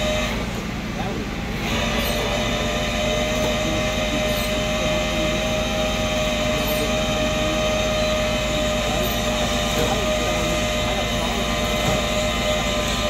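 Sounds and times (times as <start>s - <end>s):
hydraulic winch whine: 0.0s - 13.0s
truck engine rumble: 0.0s - 13.0s.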